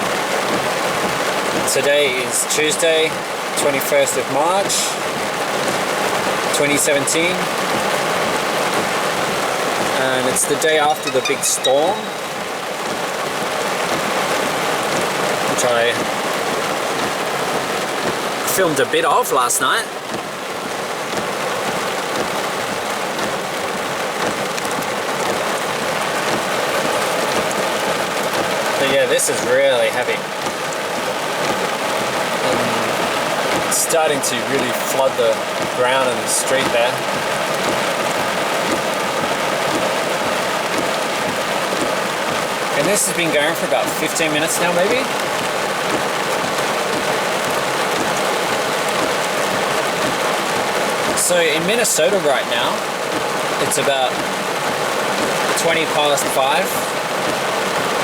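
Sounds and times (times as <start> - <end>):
heavy rain on street: 0.0 - 58.0.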